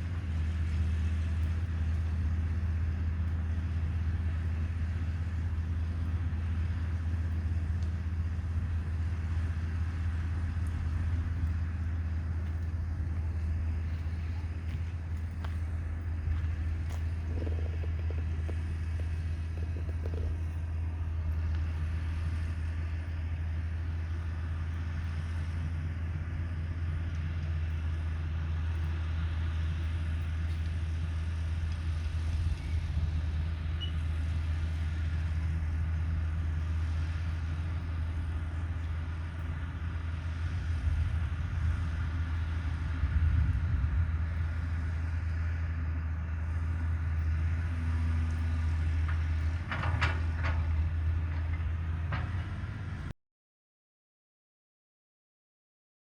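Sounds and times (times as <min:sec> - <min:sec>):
excavator diesel engine running: 0:00.0 - 0:53.1.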